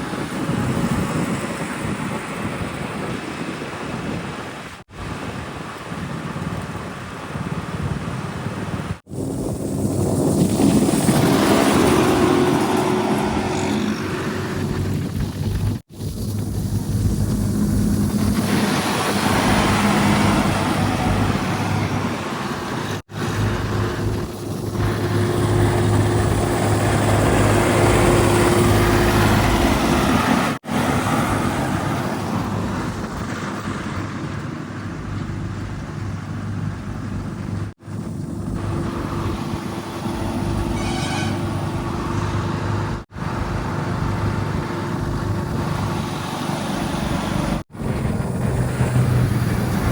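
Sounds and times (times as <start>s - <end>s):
heavy diesel engines running: 9.0s - 49.9s.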